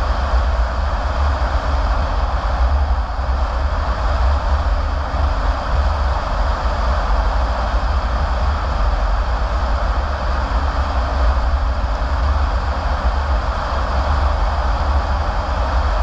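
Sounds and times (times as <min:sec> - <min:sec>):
low road rumble: 0:00.0 - 0:16.0.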